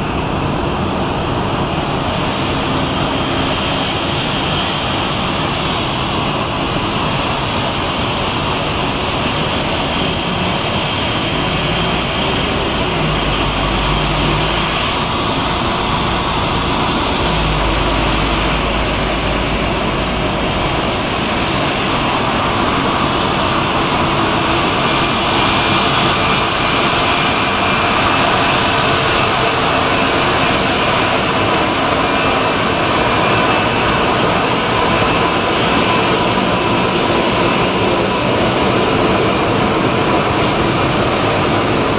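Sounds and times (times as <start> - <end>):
jet engines whining at taxi thrust: 0.0 - 41.9.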